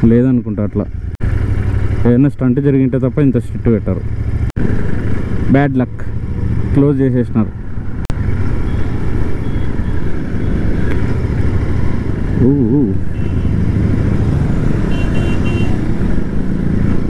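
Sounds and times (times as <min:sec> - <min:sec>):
road and wind noise: 0:00.0 - 0:17.0
motorcycle engine running: 0:00.6 - 0:06.8, 0:08.6 - 0:17.0.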